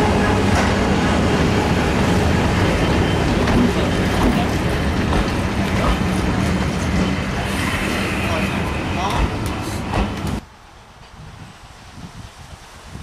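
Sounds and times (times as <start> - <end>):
diesel train engine droning: 0.0 - 11.0.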